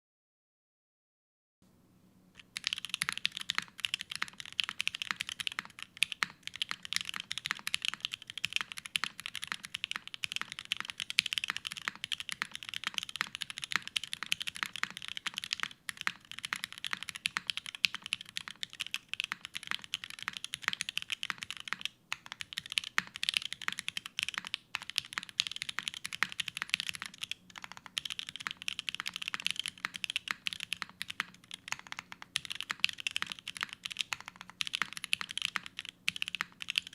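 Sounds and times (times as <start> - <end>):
fast typing on mechanical keyboard: 2.4 - 36.9.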